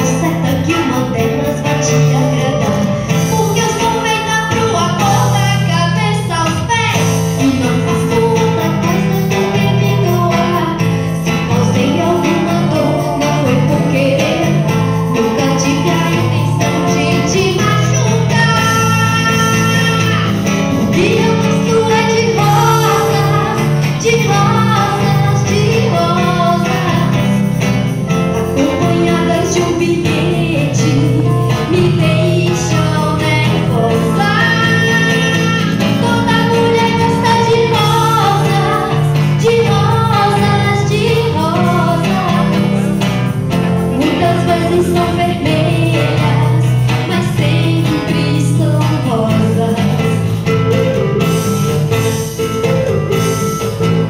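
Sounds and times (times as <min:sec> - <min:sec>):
live band with guitars and drums: 0:00.0 - 0:54.0
steady bass line: 0:00.0 - 0:54.0
woman singing into a microphone: 0:00.0 - 0:54.0.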